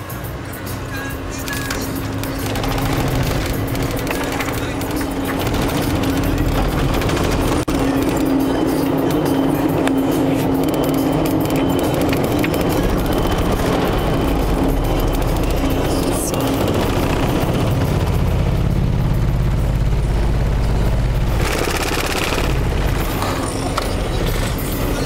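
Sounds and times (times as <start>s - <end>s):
engine and tyres rumbling: 0.0s - 25.0s
steady hum: 0.4s - 25.0s.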